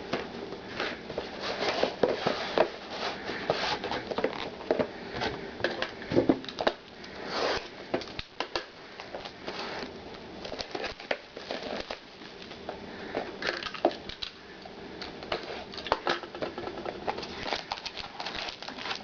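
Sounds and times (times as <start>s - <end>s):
card packs rustling and crinkling: 0.0s - 19.0s.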